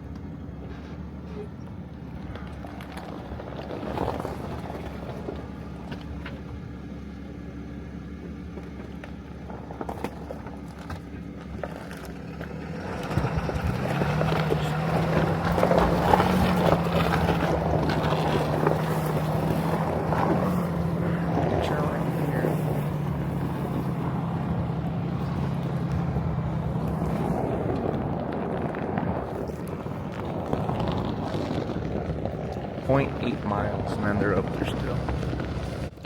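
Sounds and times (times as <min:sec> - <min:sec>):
diesel truck engine idling and revving: 0:00.0 - 0:36.0.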